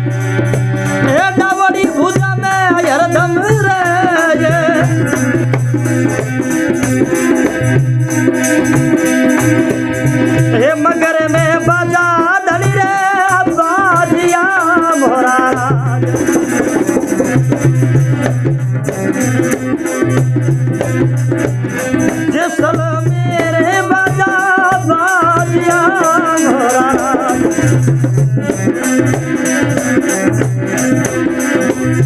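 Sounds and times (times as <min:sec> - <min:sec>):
hand drum steady beat: 0:00.0 - 0:32.0.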